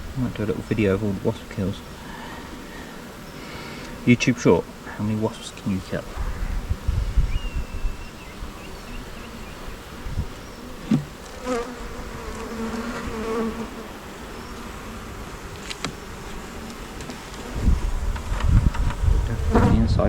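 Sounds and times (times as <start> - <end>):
honey bees buzzing: 0.0 - 19.9
bee humming close: 0.0 - 20.0.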